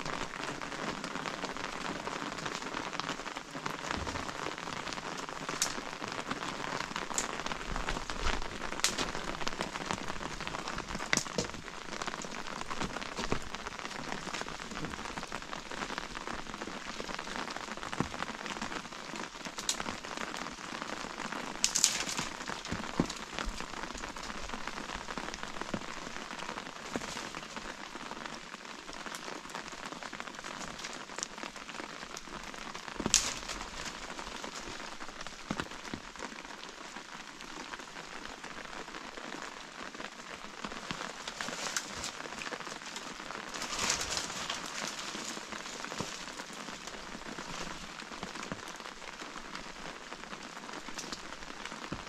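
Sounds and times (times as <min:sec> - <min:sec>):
sharp raindrops: 0:00.0 - 0:52.0
steady rain: 0:00.0 - 0:52.0.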